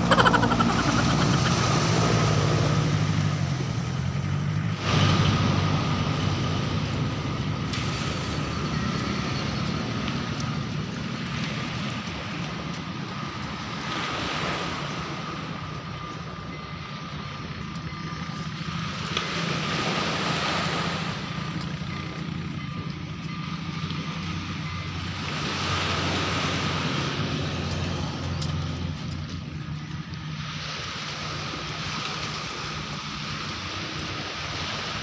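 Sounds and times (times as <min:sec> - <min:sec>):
low engine hum: 0:00.0 - 0:35.0
road traffic passing: 0:00.0 - 0:35.0.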